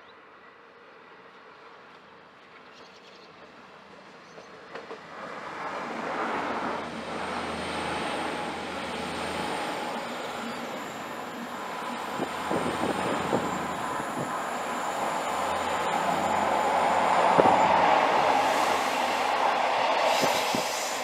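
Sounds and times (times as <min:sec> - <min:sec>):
passenger train passing: 0:03.4 - 0:21.0.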